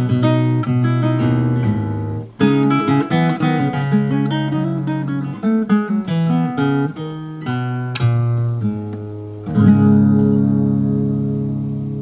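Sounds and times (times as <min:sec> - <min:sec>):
nylon-string guitar plucked: 0:00.0 - 0:12.0.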